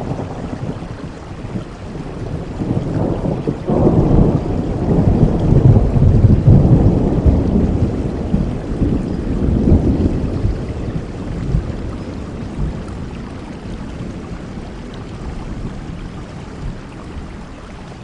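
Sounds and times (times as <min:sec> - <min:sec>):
rolling thunder: 0:00.0 - 0:17.4
steady rainfall: 0:00.0 - 0:18.0.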